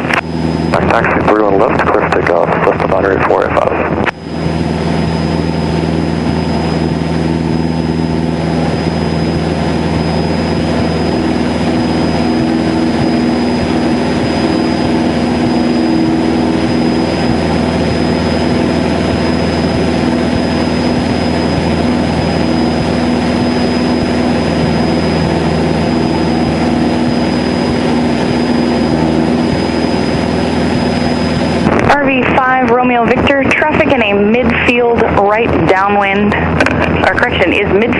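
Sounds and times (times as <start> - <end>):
airplane engine and propeller: 0.0 - 37.9
high-pitched whine: 0.0 - 37.9.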